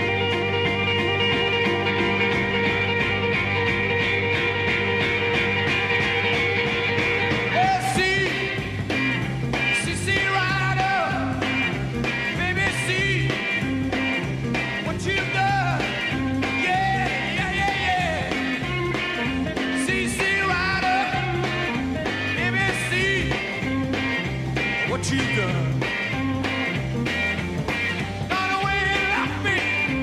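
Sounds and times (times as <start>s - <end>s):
bass line: 0.0s - 30.0s
drums: 0.0s - 30.0s
lead guitar bending notes: 0.0s - 30.0s.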